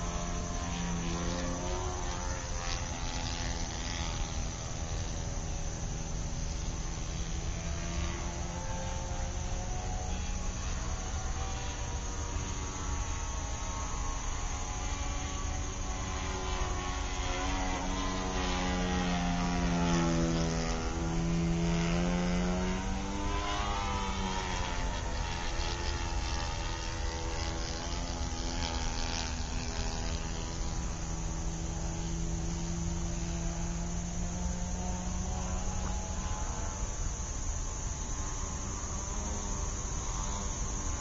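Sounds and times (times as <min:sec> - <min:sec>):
small engine droning: 0:00.0 - 0:41.0.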